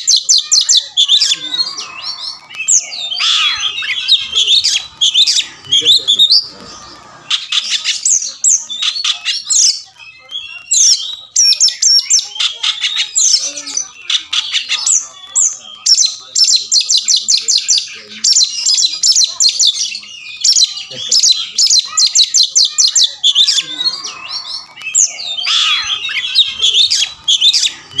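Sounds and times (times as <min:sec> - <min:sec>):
bird singing whistled phrases: 0:00.0 - 0:28.0.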